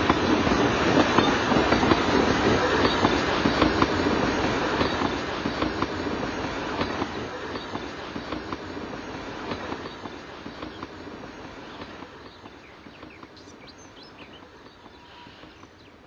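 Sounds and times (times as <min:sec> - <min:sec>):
wheels clicking over rail joints: 0:00.0 - 0:08.7, 0:09.4 - 0:16.0
train rumbling on rails: 0:00.0 - 0:16.0.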